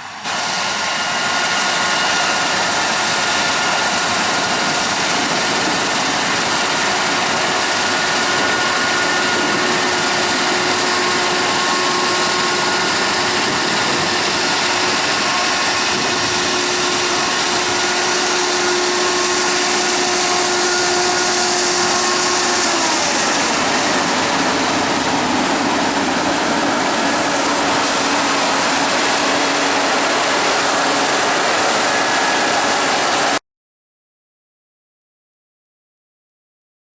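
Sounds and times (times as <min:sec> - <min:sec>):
heavy machinery engine running: 0:00.0 - 0:33.4
whining tones: 0:01.0 - 0:33.4.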